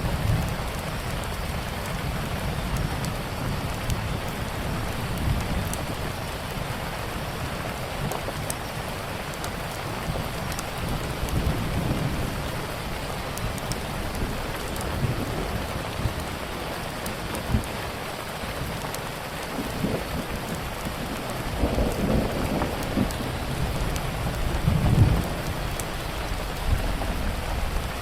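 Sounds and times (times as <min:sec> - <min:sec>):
steady rain: 0:00.0 - 0:28.0
wood fire crackling: 0:00.0 - 0:28.0.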